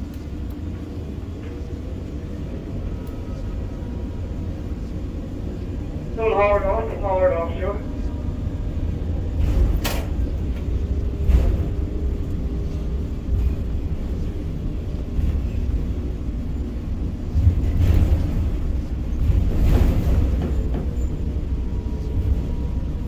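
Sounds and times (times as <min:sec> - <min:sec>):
crane machinery rumbling: 0:00.0 - 0:23.0.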